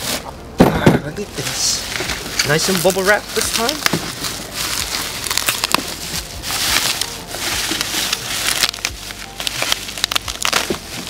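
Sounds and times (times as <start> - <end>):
bubble wrap crinkling: 1.2 - 11.0.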